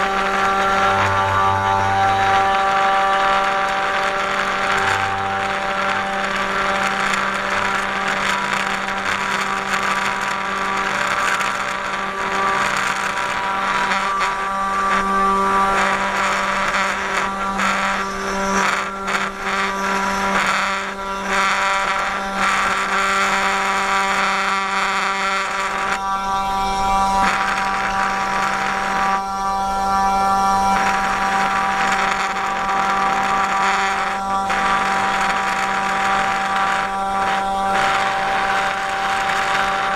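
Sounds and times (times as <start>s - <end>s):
end mill rasping through wood: 0.0s - 26.0s, 30.5s - 39.9s
router spindle whine: 0.0s - 39.9s.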